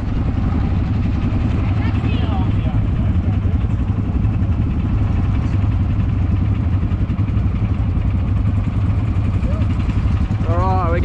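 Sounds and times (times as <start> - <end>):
quad bike engine idling: 0.0 - 11.0.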